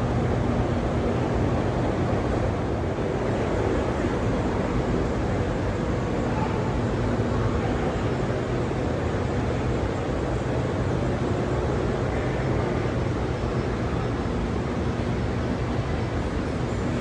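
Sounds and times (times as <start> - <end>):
factory machinery drone: 0.0 - 17.0
low machinery hum: 0.0 - 17.0.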